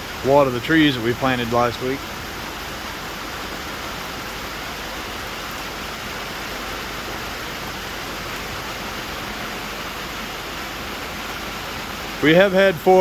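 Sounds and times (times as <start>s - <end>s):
hard rain on a tin roof: 0.0s - 13.0s.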